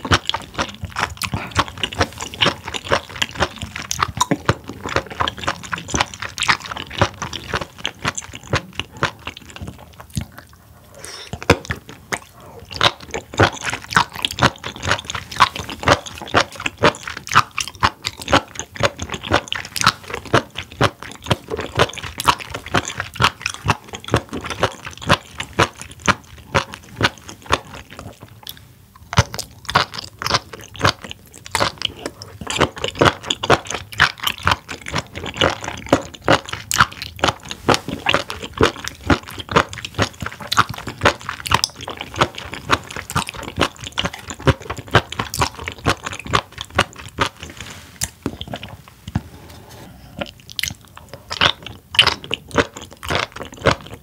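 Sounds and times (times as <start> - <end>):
wet crunchy chewing: 0.0 - 54.0.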